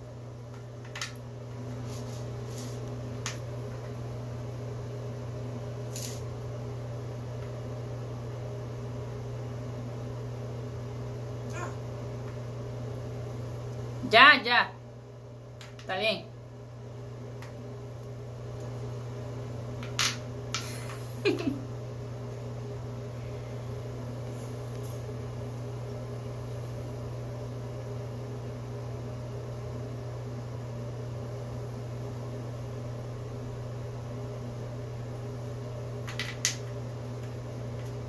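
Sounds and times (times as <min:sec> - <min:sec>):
low hum of fan: 0:00.0 - 0:38.0.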